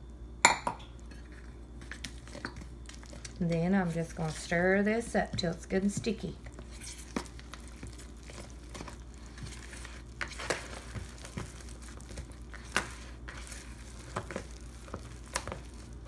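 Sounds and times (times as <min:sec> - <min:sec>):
spatula stirring sticky batter: 0:01.8 - 0:16.0.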